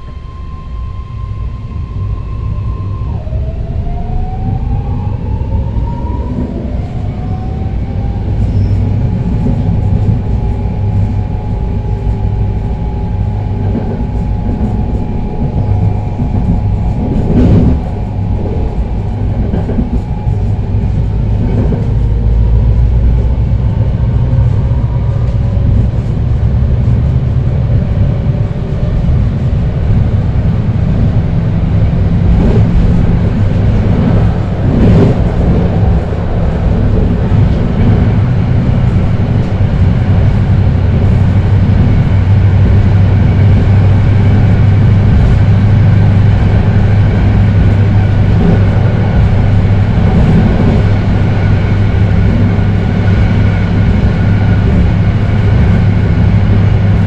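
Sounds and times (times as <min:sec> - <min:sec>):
high whine: 0:00.0 - 0:57.0
train traction motors humming: 0:00.0 - 0:57.0
wheels rumbling on rail: 0:00.0 - 0:57.0.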